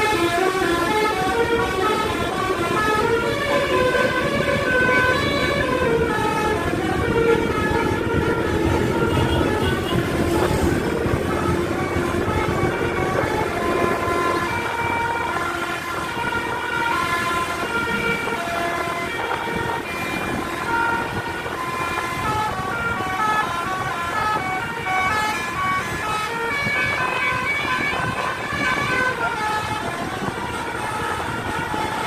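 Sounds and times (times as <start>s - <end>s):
bus engine rumble: 0.0s - 32.0s
bus musical horn melody: 0.0s - 32.0s.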